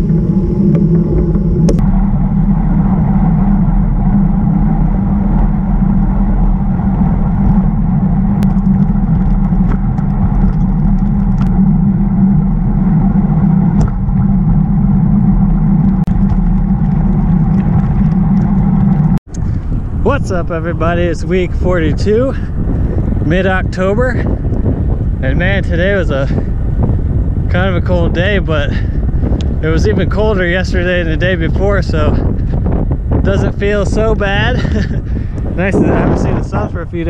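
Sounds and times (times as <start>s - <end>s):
tyre road and wind rumble: 0.0s - 37.0s.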